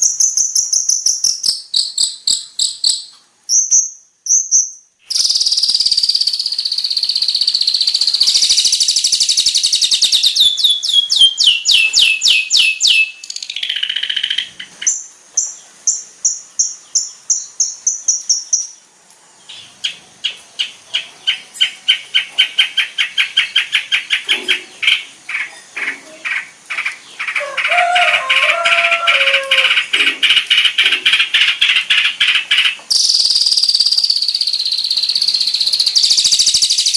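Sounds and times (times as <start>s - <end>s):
bird chattering trills: 0.0s - 18.8s, 19.5s - 36.9s.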